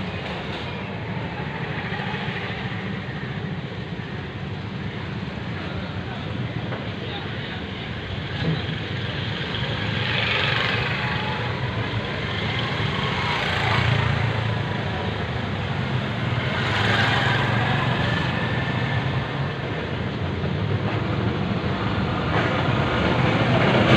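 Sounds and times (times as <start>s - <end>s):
road traffic hum: 0.0s - 23.9s
vehicles passing: 0.0s - 23.9s.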